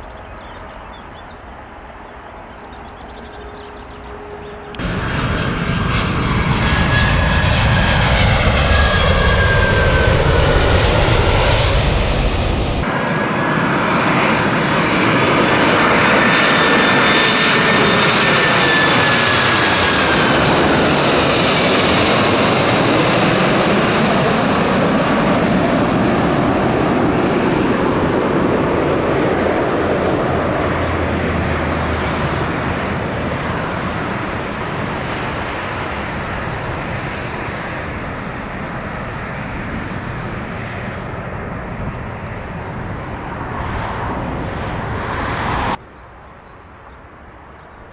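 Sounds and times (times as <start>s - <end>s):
jet engines passing overhead: 0.0s - 47.9s.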